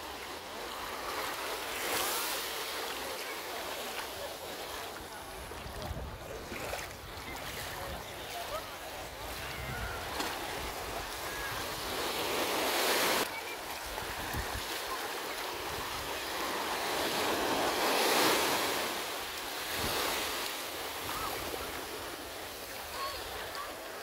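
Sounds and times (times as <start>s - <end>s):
waves washing onto sand: 0.0s - 24.0s.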